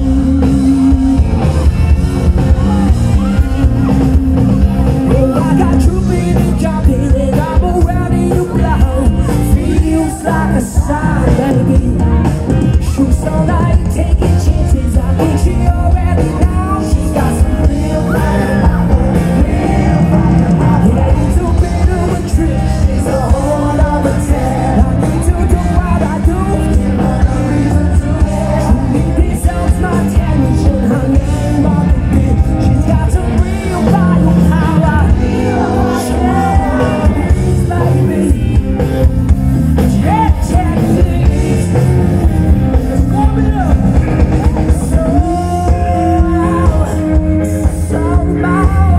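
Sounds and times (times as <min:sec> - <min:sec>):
live rock band playing: 0:00.0 - 0:48.9
man singing: 0:00.0 - 0:48.9.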